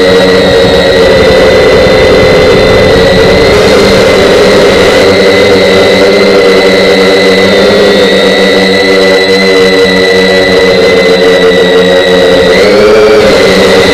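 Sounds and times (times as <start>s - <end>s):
model airplane motor whine: 0.0s - 13.9s
propeller drone: 0.0s - 13.9s.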